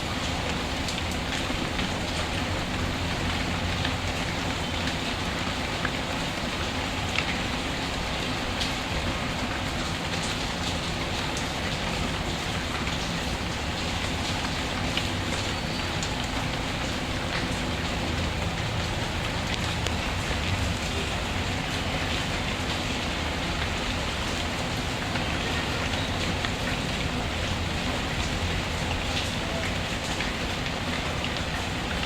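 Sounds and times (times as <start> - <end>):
small ticks of raindrops: 0.0 - 32.0
steady rain hiss: 0.0 - 32.0.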